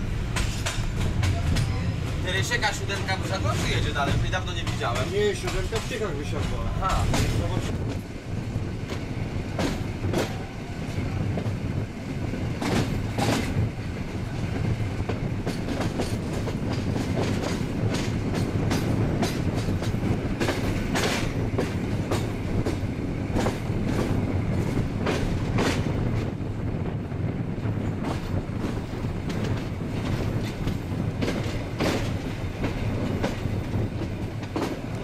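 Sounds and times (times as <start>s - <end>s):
wheels clacking over rail joints: 0.0s - 8.1s, 12.4s - 26.2s, 27.8s - 35.0s
train running rumble: 0.0s - 35.0s.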